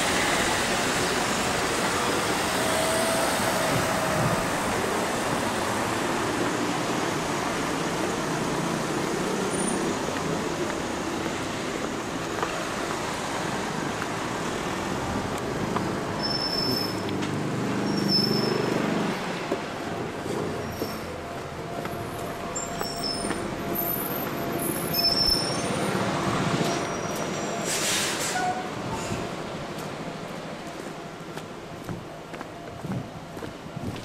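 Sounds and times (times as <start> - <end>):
road traffic: 0.0 - 34.0.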